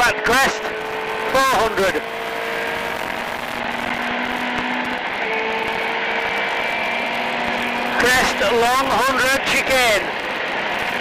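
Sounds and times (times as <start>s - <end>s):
rally car engine at speed: 0.0s - 11.0s
road and tyre noise: 0.0s - 11.0s.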